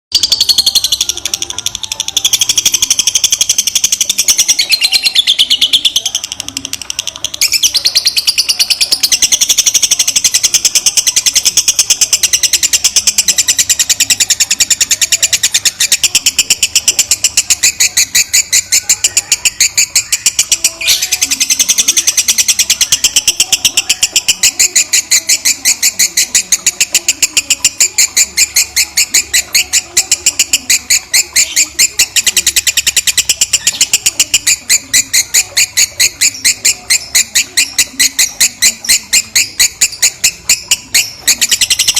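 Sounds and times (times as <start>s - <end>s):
lovebird shrill chattering: 0.1s - 41.9s.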